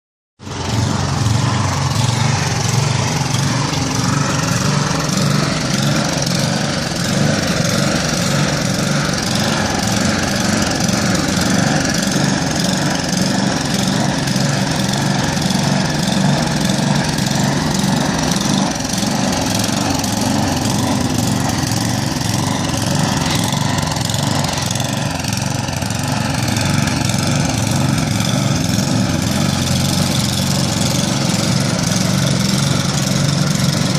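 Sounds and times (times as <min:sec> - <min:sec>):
snow blower engine running: 0:00.4 - 0:33.9.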